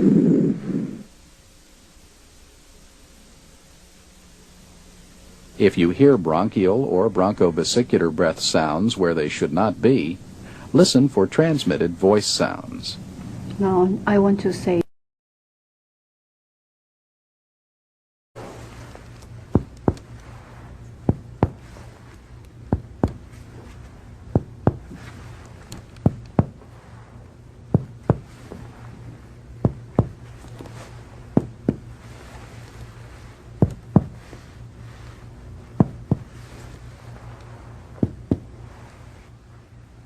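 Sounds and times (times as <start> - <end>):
steady low hum: 0.0 - 14.9, 18.4 - 40.0.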